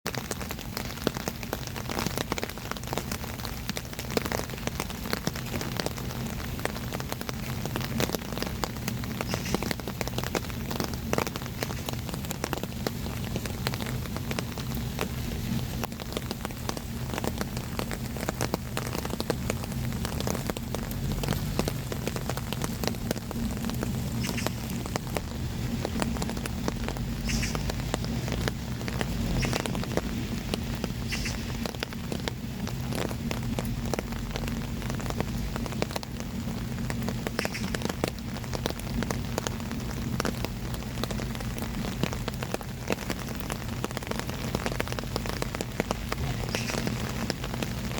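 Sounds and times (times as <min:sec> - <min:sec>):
rain on hard surfaces: 0:00.0 - 0:47.9
water drips and splashes: 0:00.1 - 0:47.9.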